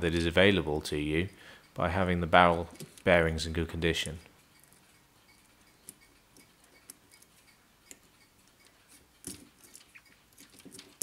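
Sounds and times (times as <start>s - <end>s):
small metallic clicks and ticks: 0.1s - 11.0s.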